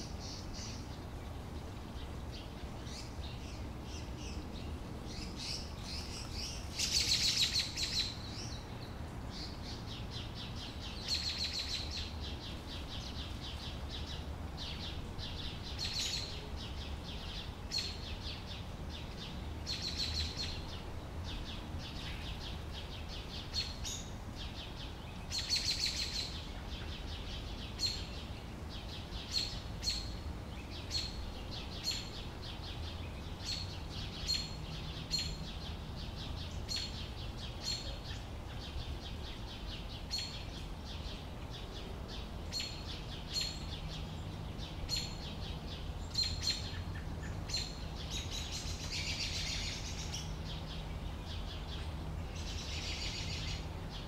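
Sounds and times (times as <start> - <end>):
small bird chirping: 2.3 - 54.0.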